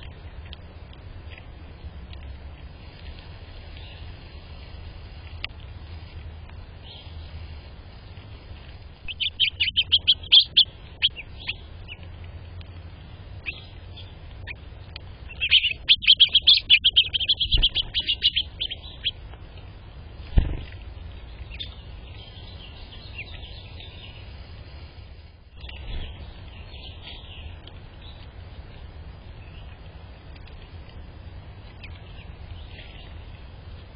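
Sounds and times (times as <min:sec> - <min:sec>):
songbirds chirping and twittering: 0:00.0 - 0:33.9.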